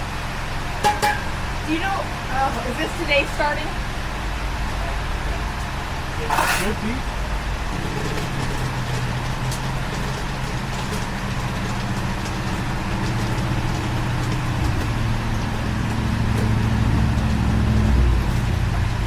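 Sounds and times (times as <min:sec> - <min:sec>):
engine running with low hum: 0:00.0 - 0:19.0.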